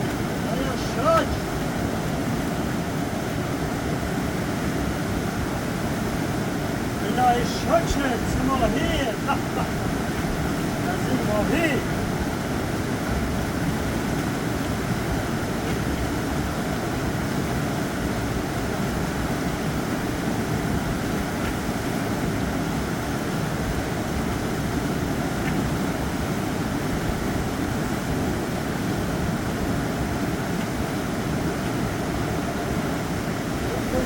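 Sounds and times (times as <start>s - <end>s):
mountain river rushing: 0.0s - 34.0s.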